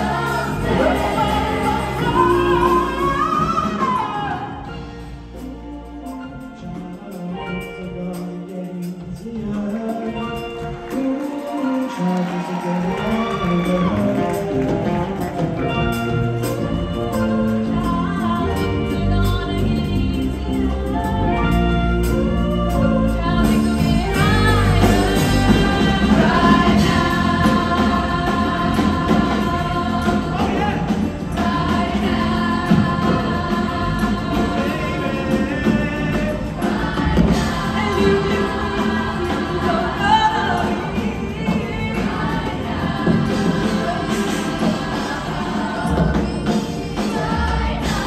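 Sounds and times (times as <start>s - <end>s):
group singing: 0.0s - 48.0s
live band playing: 0.0s - 48.0s.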